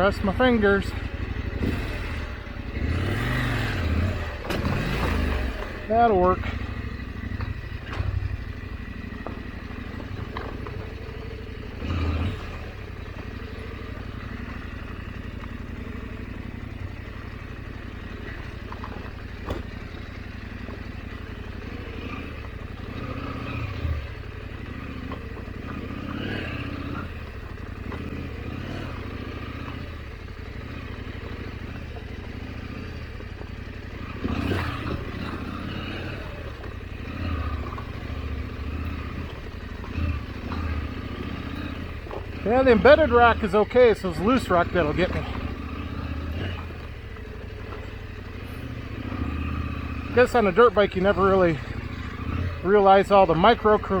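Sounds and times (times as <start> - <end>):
motorcycle engine at low revs: 0.0 - 54.0
knocks and clatter over rocks: 4.1 - 16.0, 16.9 - 23.3, 24.2 - 49.5.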